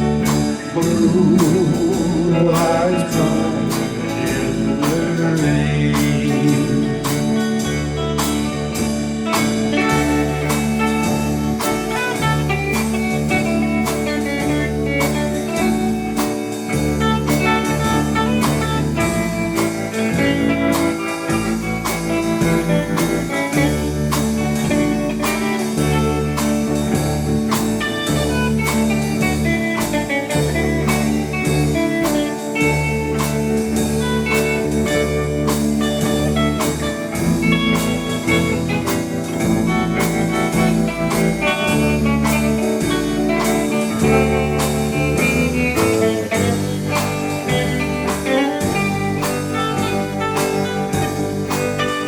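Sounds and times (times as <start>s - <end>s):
bass notes: 0.0s - 52.0s
guitar leading: 0.0s - 52.0s
slow steady drum beat: 0.0s - 52.0s.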